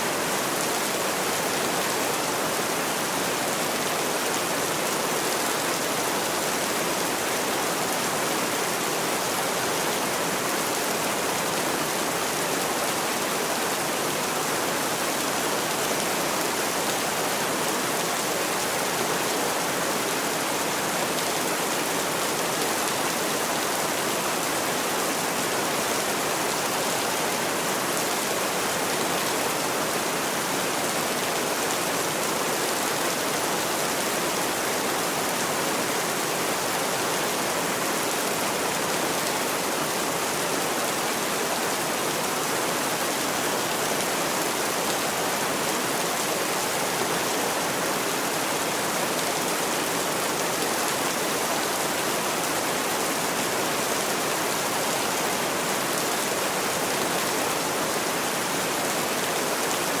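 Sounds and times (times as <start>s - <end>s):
heavy rain pouring: 0.0s - 60.0s.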